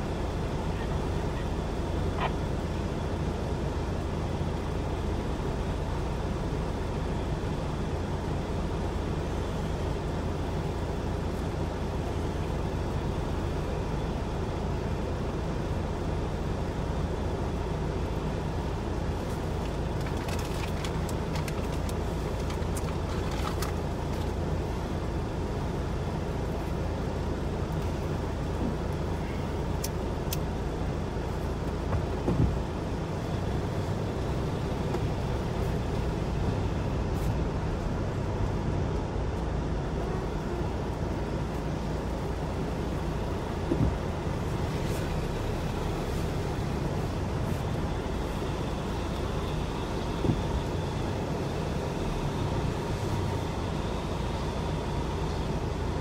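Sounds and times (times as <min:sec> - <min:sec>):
car engine rumble in cabin: 0:00.0 - 0:56.0.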